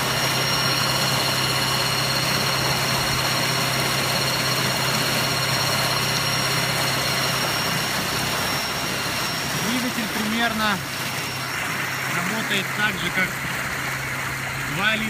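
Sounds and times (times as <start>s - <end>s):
electric outboard motor humming: 0.0s - 15.0s.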